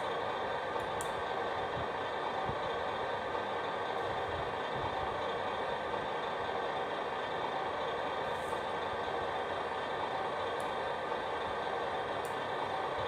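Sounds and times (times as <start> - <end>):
simulated diesel engine idling: 0.0 - 13.0.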